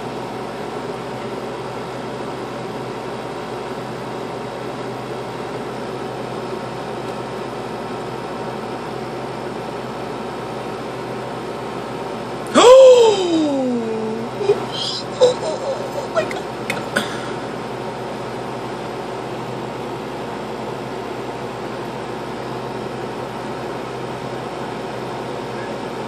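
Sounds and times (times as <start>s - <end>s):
air conditioner humming: 0.0s - 26.0s.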